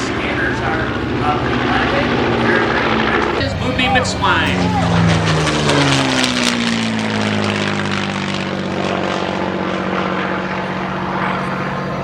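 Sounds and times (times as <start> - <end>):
propeller plane flying past: 0.0 - 12.0.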